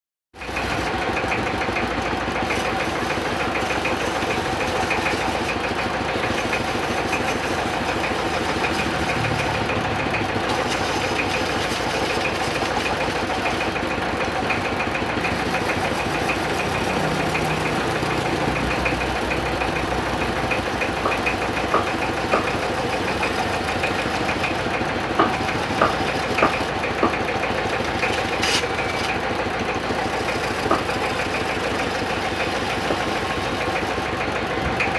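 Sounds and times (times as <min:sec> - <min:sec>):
wood lathe running: 0:00.5 - 0:34.9.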